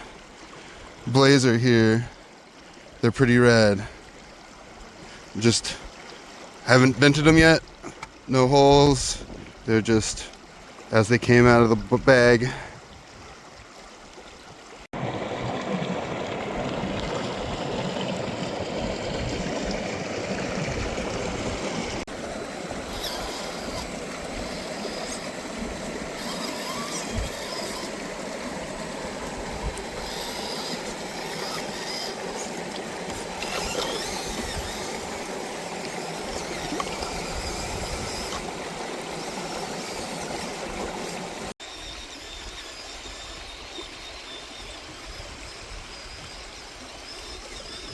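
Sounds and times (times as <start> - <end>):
creek water running: 0.0 - 47.9.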